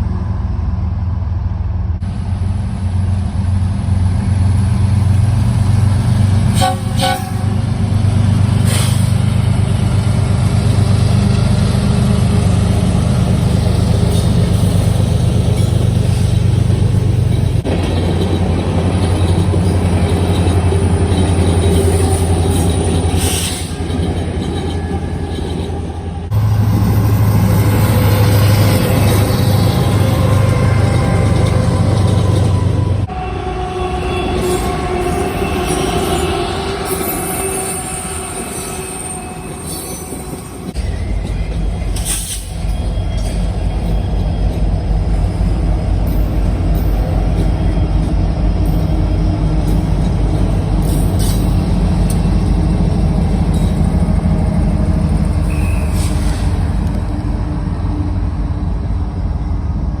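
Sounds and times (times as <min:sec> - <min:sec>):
freight train rumbling past: 0:00.0 - 1:00.0.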